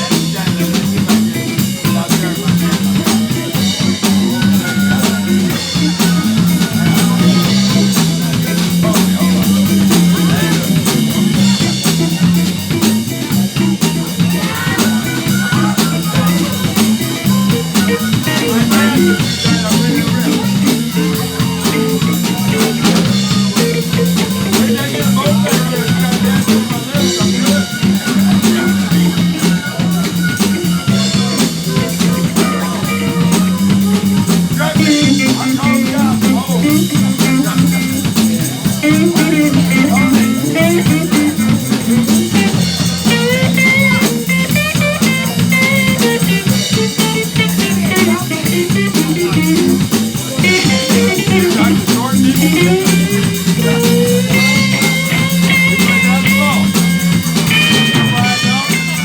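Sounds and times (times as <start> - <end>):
blues band playing: 0.0 - 59.0.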